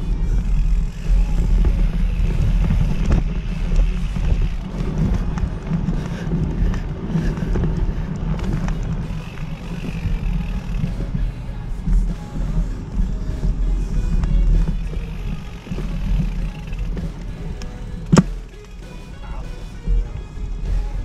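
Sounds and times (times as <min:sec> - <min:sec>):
bike clicks and rattles: 0:00.0 - 0:21.0
tyres rumbling on dirt: 0:00.0 - 0:21.0
wind buffeting microphone: 0:00.0 - 0:21.0.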